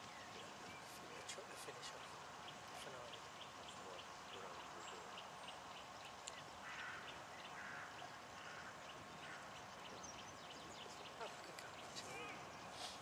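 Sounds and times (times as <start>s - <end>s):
bird calls: 0.0s - 13.0s
faint outdoor background: 0.0s - 13.0s.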